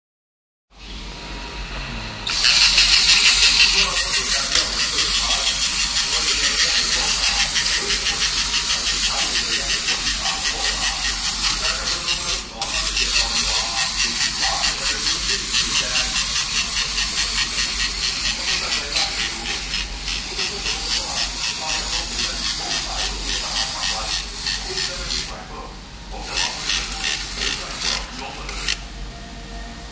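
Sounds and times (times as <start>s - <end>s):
clockwork toy motor whirring: 2.3s - 25.4s, 26.2s - 28.8s.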